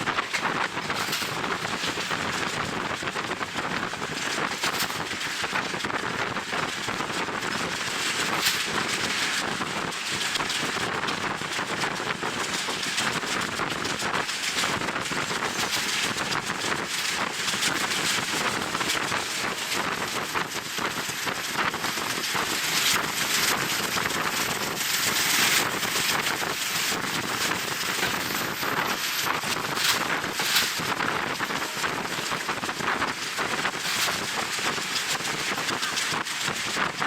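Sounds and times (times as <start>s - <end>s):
train running noise: 0.0s - 37.0s
wind buffeting microphone: 0.0s - 37.0s.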